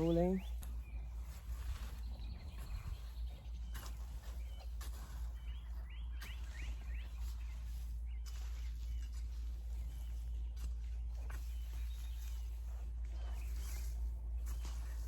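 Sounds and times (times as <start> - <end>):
bird chirping: 0.0 - 15.0
steady low rumble: 0.0 - 15.0.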